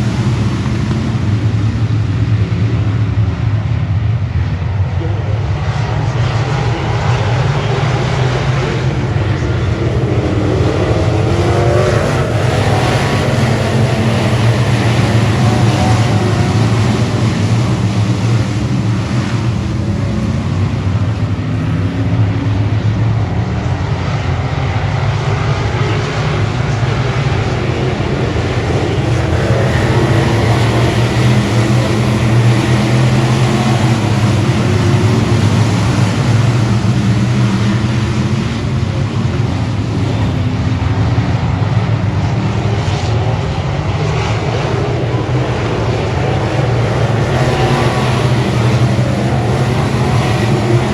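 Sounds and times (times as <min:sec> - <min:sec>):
race car engine running hard: 0:00.0 - 0:50.9.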